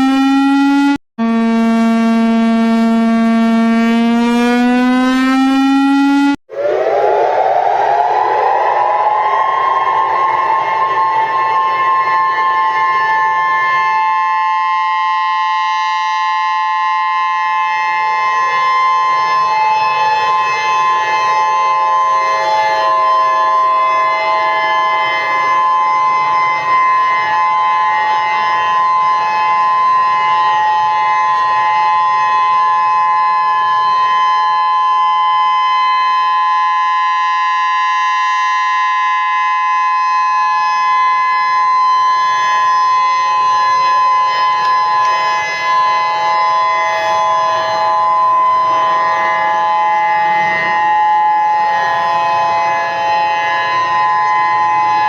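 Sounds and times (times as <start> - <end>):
emergency alert alarm tones: 0.0 - 55.0
lower tones sliding in pitch: 0.0 - 55.0.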